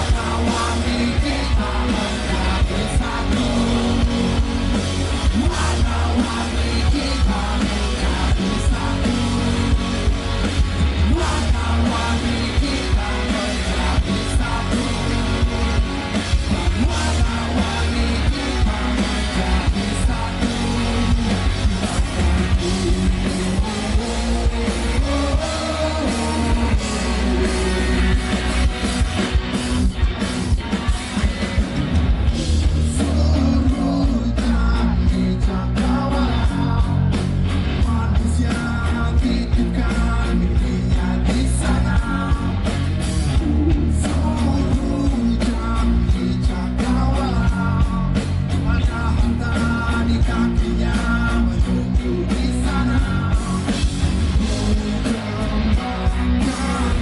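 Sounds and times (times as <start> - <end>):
person singing: 0.0 - 10.1, 11.0 - 28.9, 32.8 - 37.1, 43.3 - 57.0
rock band playing live: 0.0 - 57.0.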